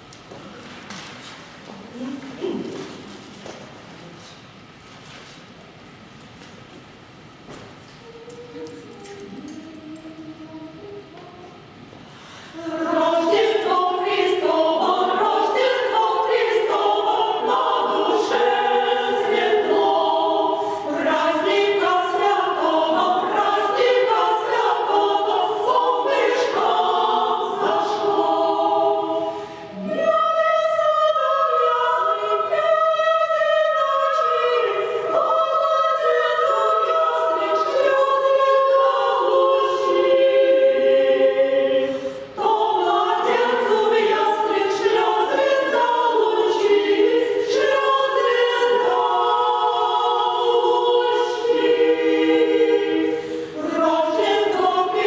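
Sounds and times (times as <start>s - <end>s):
women's choir singing: 8.0s - 55.0s.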